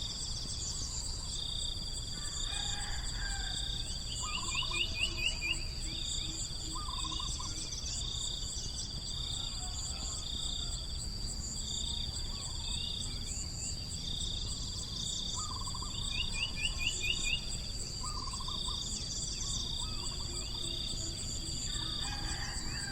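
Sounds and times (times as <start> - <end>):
pulsing insect call: 0.0 - 22.9.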